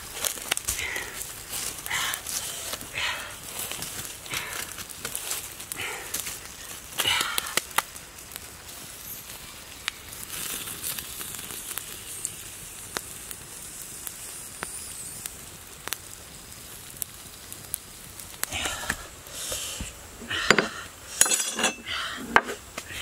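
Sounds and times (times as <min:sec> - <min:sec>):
faint sizzling hiss: 0:00.0 - 0:23.0
fire crackling and popping: 0:00.0 - 0:23.0.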